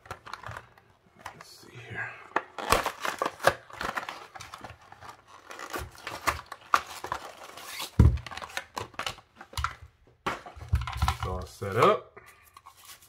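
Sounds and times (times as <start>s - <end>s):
cardboard packaging rustling: 0.0s - 11.8s, 12.5s - 13.0s.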